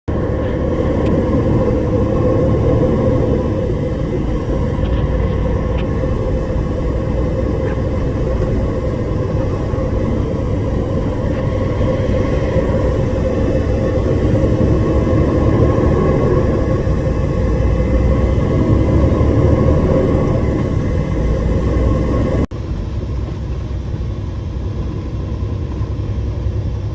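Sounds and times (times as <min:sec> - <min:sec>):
diesel engine rumbling: 0:00.0 - 0:26.9.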